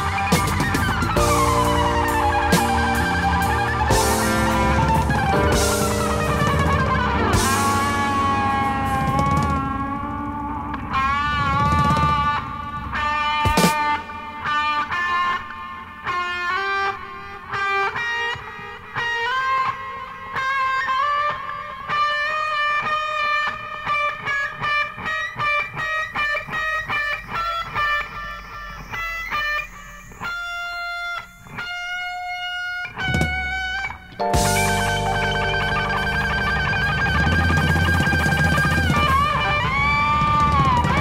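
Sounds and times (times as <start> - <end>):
electric guitar solo: 0.0 - 41.0.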